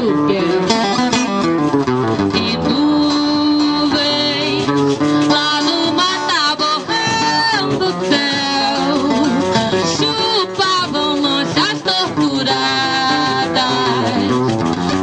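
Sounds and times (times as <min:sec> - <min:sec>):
woman singing: 0:00.0 - 0:01.3, 0:02.3 - 0:14.5
acoustic guitar: 0:00.0 - 0:15.0.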